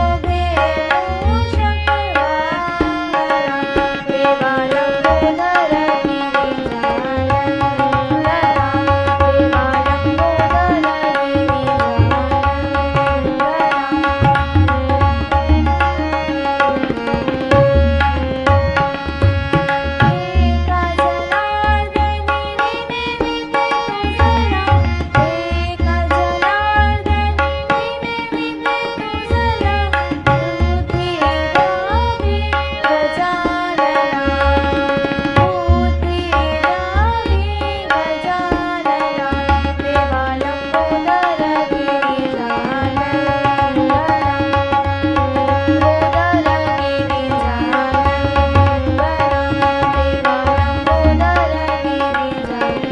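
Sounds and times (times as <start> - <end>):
tabla playing a busy rhythm: 0.0 - 52.9.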